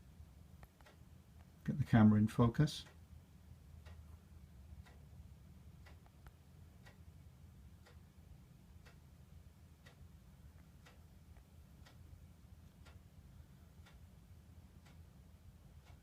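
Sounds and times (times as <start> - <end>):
faint regular ticking: 0.0 - 16.0
low steady hum: 0.0 - 16.0.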